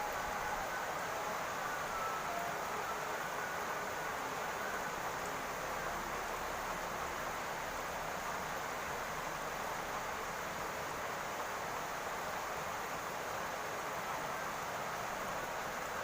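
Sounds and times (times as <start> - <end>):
rain on a roof: 0.0 - 16.0.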